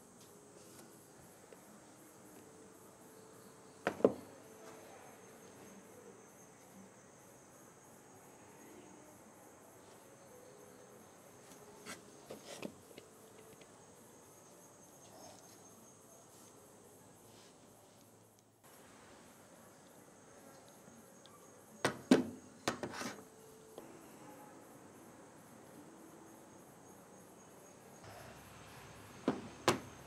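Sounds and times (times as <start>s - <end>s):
faint high-pitched chirring: 0.3s - 30.0s.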